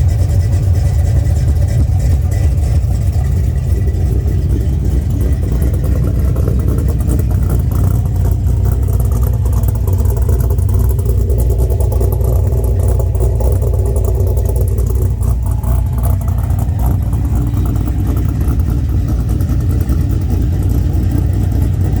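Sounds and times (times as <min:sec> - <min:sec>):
loud car engine running: 0:00.0 - 0:22.0.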